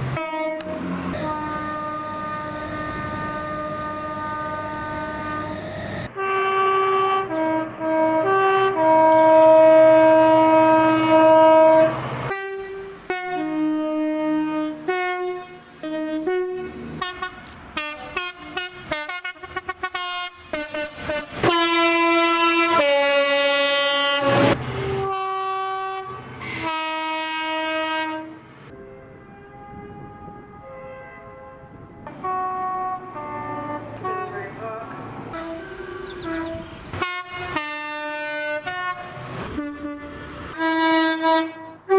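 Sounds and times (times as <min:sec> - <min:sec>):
train horns two-tone blasts: 0:00.0 - 0:41.9.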